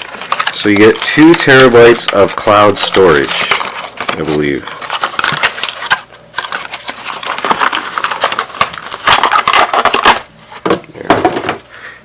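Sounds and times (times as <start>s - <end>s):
packaging crackling and rustling: 0.0s - 10.6s.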